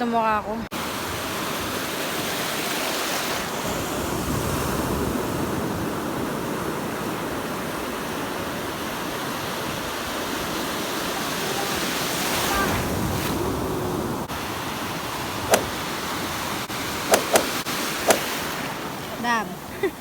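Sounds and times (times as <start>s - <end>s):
ocean surf breaking: 0.8s - 20.0s.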